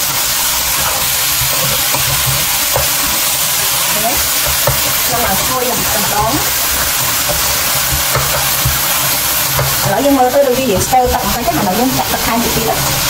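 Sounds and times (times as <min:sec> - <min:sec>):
food sizzling in a wok: 0:00.0 - 0:13.0
spatula stirring in a wok: 0:00.0 - 0:13.0.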